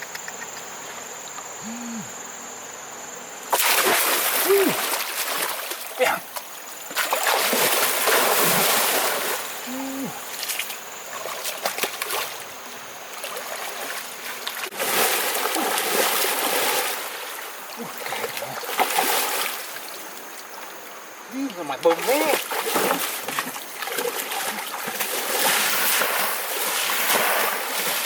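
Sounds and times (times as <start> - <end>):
river water splashing: 3.4 - 28.0.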